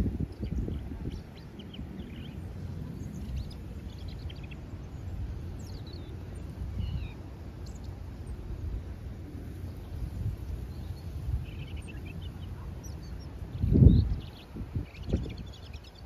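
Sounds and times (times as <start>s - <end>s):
low background rumble: 0.0s - 16.0s
small songbirds chirping: 0.0s - 16.0s.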